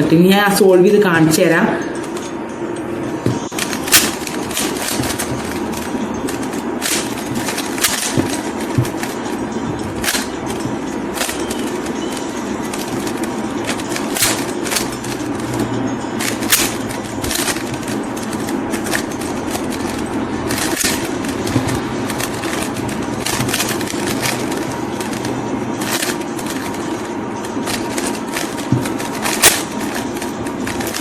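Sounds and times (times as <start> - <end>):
steady background hum: 0.0 - 31.0
plastic puzzle cube clicking: 3.5 - 9.3, 10.0 - 15.3, 16.2 - 31.0.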